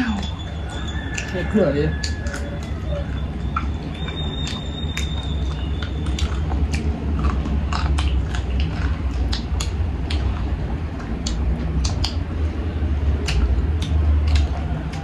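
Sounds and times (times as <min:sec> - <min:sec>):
steady low hum: 0:00.0 - 0:15.0
person chewing meat: 0:00.2 - 0:15.0
wet mouth clicks and smacks: 0:00.2 - 0:15.0.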